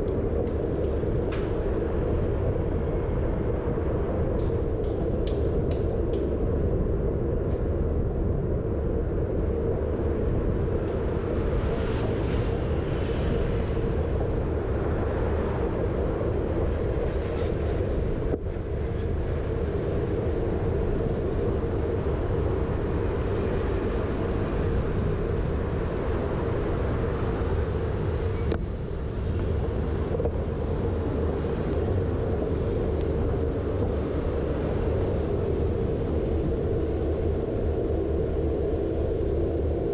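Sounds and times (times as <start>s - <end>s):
city traffic: 0.0s - 39.9s
low road rumble: 0.0s - 39.9s
wind rush on microphone: 0.0s - 39.9s.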